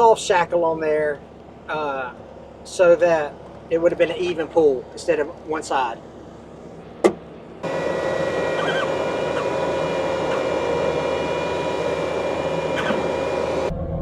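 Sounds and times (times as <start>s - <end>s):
mechanical hum with whine: 0.0s - 14.0s.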